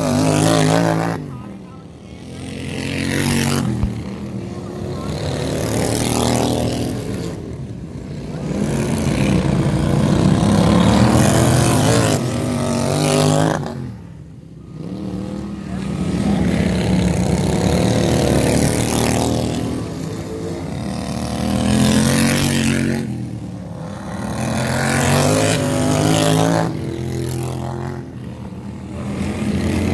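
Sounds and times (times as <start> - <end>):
racing lawn mower engines revving: 0.0 - 29.9.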